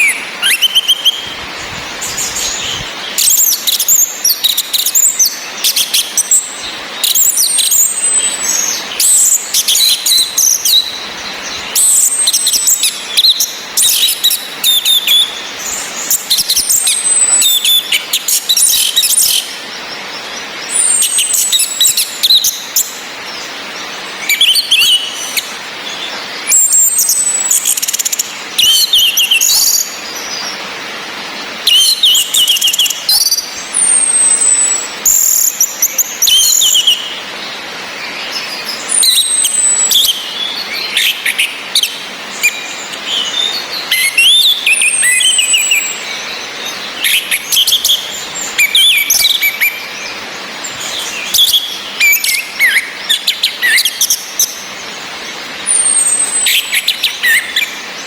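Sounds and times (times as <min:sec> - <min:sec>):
thrush whistling call: 0:00.0 - 0:19.6, 0:20.6 - 0:23.0, 0:24.2 - 0:30.5, 0:31.6 - 0:37.3, 0:38.5 - 0:54.7, 0:55.6 - 0:58.0
rain hiss: 0:00.0 - 0:58.0
thrush chirping song: 0:00.0 - 0:58.0.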